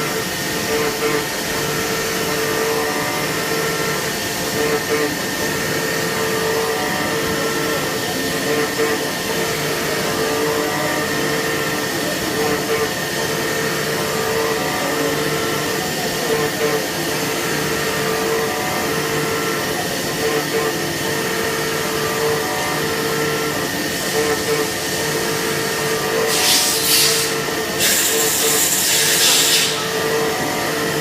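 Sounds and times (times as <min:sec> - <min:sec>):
machine cutting whine: 0:00.0 - 0:31.0.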